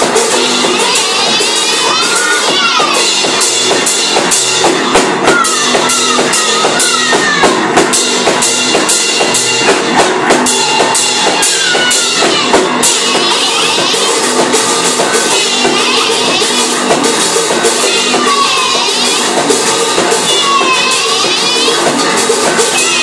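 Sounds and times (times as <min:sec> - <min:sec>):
drum kit: 0:00.0 - 0:23.0
people shouting vocals: 0:00.0 - 0:23.0.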